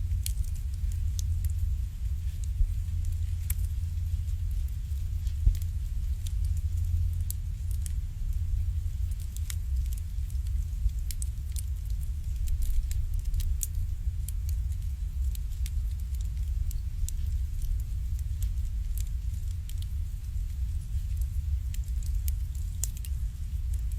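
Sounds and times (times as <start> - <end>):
fire low rumble: 0.0 - 23.9
wood fire crackling and popping: 0.0 - 23.9.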